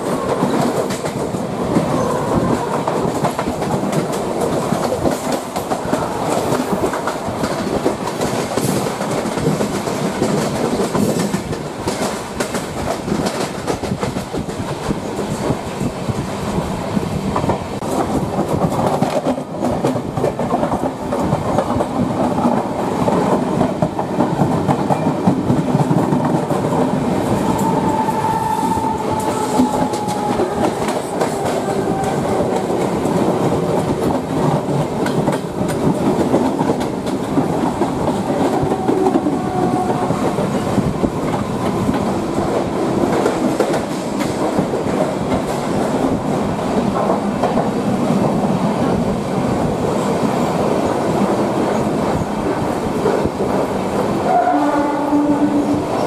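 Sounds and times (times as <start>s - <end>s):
train wheel clatter over rail joints: 0.0s - 16.2s, 17.4s - 54.2s
electric train passing alongside: 0.0s - 56.0s
rushing wind: 0.0s - 56.0s.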